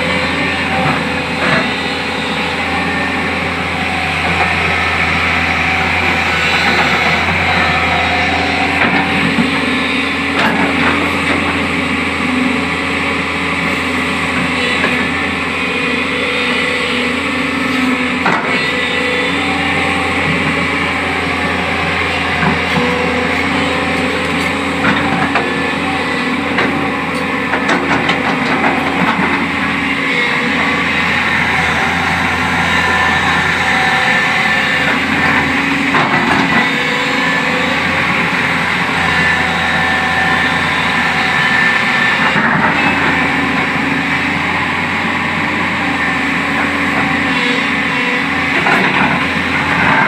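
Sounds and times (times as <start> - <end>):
diesel engine running: 0.0 - 50.0.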